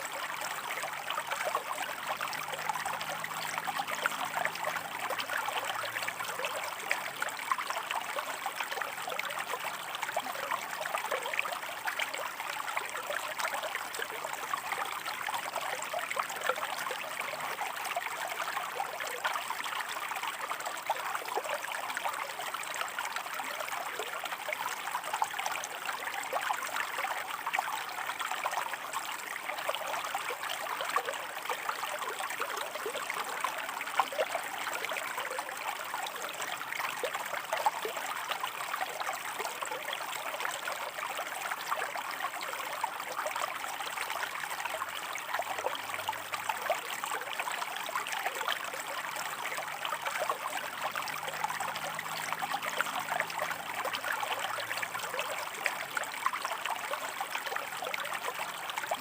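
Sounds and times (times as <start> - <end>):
river water running over rocks: 0.0 - 59.0.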